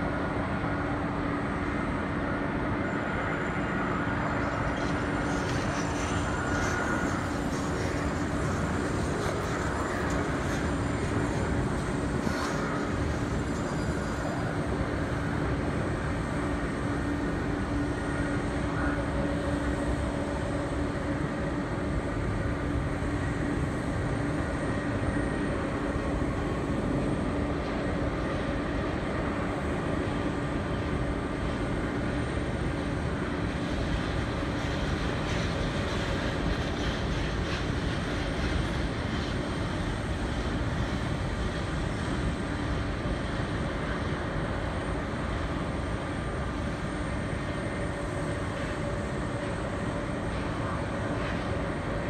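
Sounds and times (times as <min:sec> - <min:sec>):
auxiliary power units humming: 0:00.0 - 0:52.0
jet engines droning: 0:00.0 - 0:52.0.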